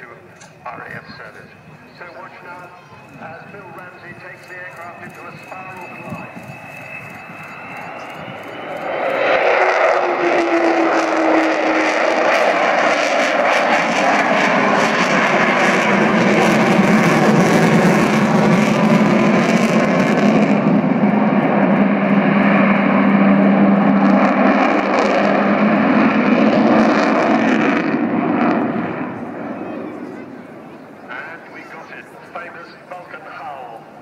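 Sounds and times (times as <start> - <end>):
jet bomber flying past: 0.0 - 34.0.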